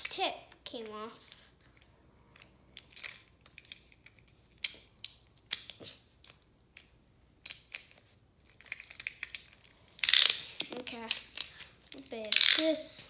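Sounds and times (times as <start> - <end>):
plastic and metal toy parts clicking: 1.6 - 12.8.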